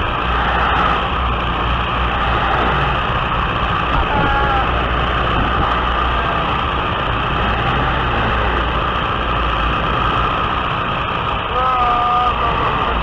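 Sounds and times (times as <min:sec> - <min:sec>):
aircraft engine hum: 0:00.0 - 0:13.0
rushing wind: 0:00.0 - 0:13.0.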